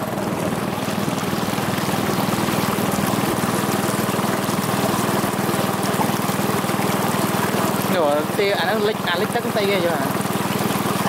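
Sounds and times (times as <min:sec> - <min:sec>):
boat motor running: 0:00.0 - 0:11.0
water rushing along hull: 0:00.0 - 0:11.0.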